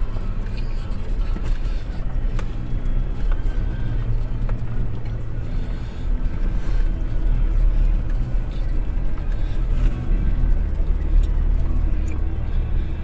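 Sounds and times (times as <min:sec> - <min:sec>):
car engine rumbling: 0:00.0 - 0:13.0
car knocking and rattling: 0:00.0 - 0:13.0.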